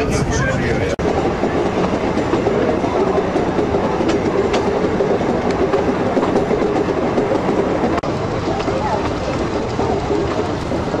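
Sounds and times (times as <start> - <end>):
train rumbling and rattling on track: 0.0 - 11.0.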